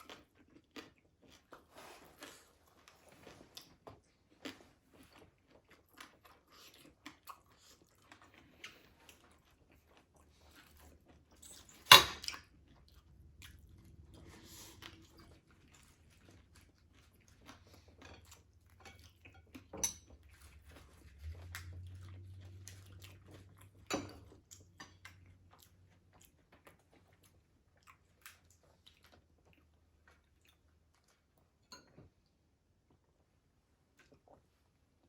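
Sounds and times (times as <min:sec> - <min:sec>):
chewing crispy fried food: 0:00.0 - 0:35.0.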